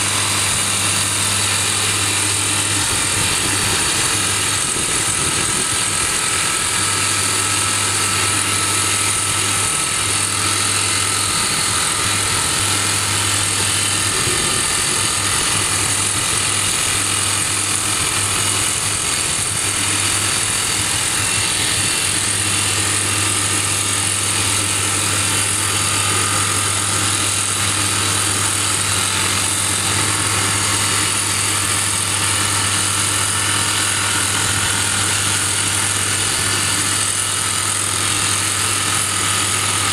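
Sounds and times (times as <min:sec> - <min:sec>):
engine running steadily: 0:00.0 - 0:39.9
rock drill hammering: 0:00.0 - 0:39.9.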